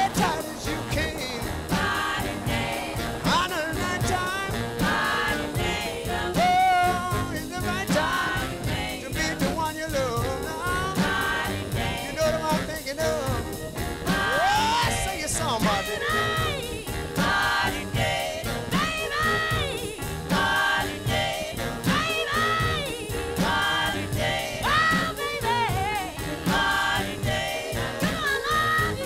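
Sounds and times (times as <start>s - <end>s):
background music with singer: 0.0s - 29.0s.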